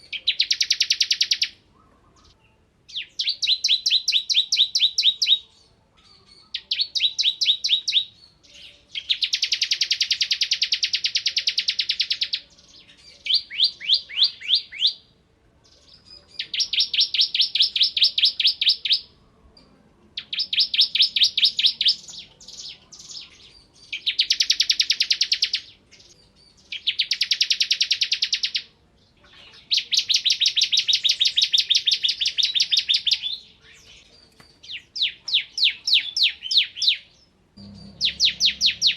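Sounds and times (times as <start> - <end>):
bird singing rapid high trills: 0.0 - 1.6, 2.9 - 15.0, 16.4 - 19.1, 20.2 - 28.7, 29.6 - 38.9.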